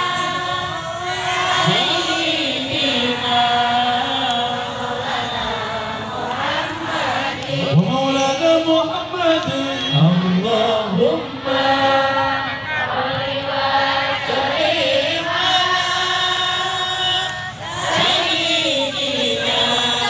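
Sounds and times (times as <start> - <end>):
men chanting together: 0.0 - 9.2, 9.8 - 20.0.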